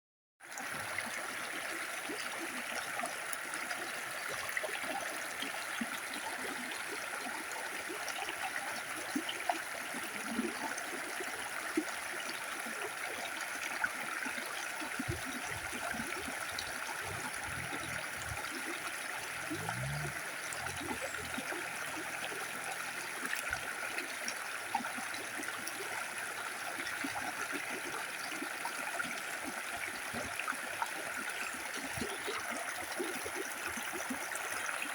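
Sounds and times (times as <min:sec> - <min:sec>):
stream of water flowing: 0:00.4 - 0:34.9
small water splashes: 0:00.5 - 0:34.9.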